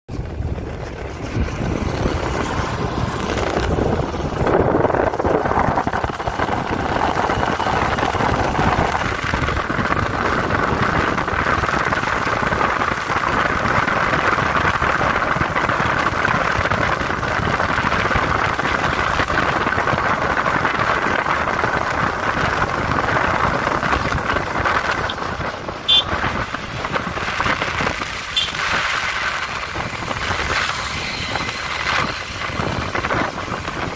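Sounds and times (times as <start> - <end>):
motorbike engine and tyre noise: 0.1 - 33.9
wind rushing over microphone: 0.1 - 33.9.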